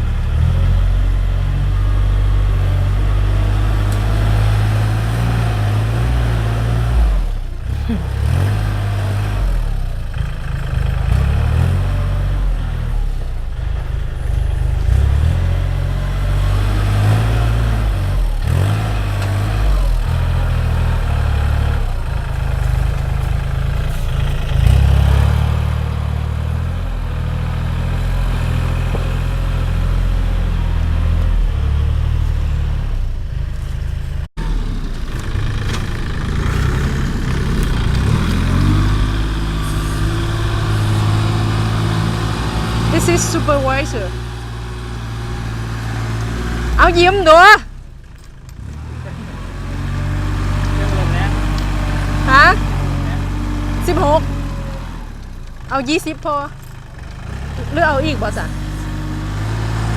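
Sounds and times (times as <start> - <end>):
small tractor engine running: 0.0 - 59.9.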